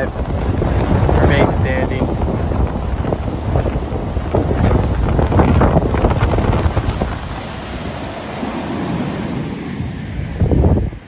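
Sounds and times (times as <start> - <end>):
heavy surf breaking: 0.0 - 11.0
wind buffeting the microphone: 0.0 - 11.0.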